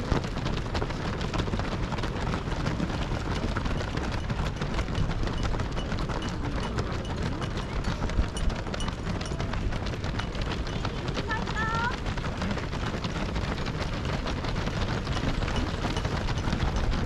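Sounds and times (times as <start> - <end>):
runners' shoes striking road: 0.0 - 17.0.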